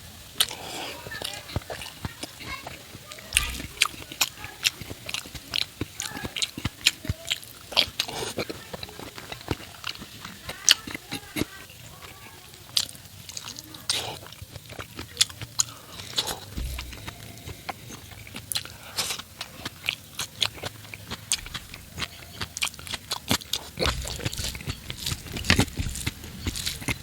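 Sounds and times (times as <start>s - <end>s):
wet chewing and biting: 0.4s - 27.0s.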